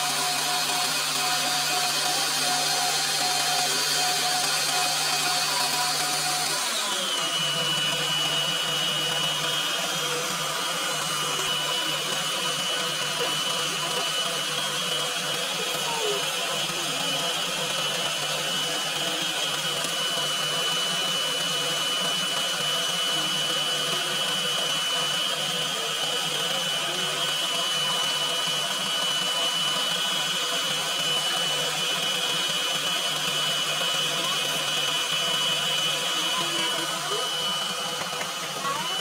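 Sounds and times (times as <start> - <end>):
electric stand mixer running: 0.0 - 39.0.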